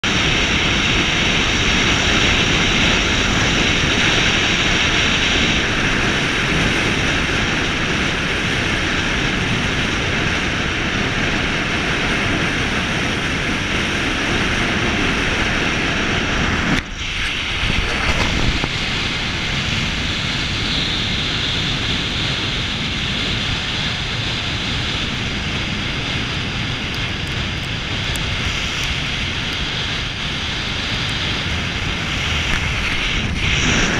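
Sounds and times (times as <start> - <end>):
wind rushing over microphone: 0.0 - 33.9.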